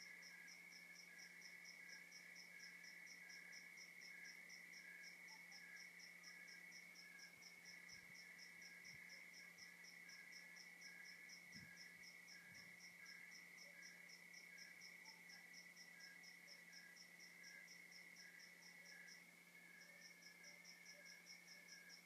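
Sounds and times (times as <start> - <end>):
slower pulsing insect call: 0.0 - 22.0.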